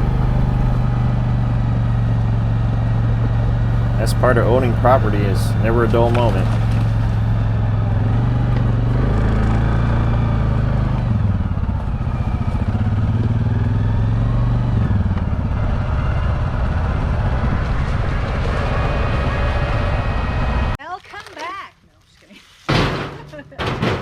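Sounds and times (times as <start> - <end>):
off-road vehicle engine running: 0.0 - 20.8.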